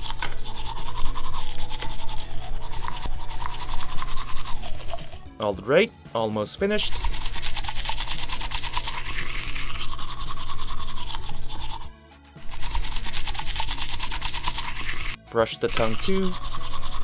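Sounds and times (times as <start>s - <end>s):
toy toothbrush scrubbing: 0.0s - 5.3s, 6.8s - 17.0s.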